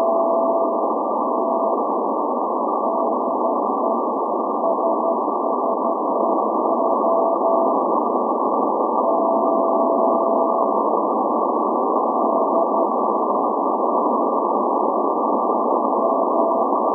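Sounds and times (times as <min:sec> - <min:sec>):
radio static hiss: 0:00.0 - 0:16.9.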